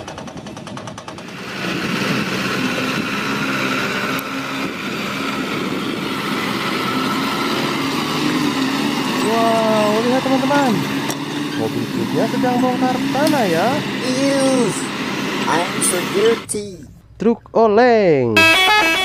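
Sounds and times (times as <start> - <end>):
truck engine running: 0.0 - 17.1.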